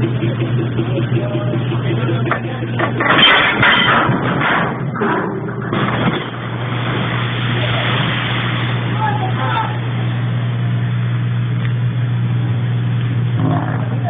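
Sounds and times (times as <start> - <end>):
boat engine humming: 0.0 - 14.0
noisy clatter: 0.0 - 14.0.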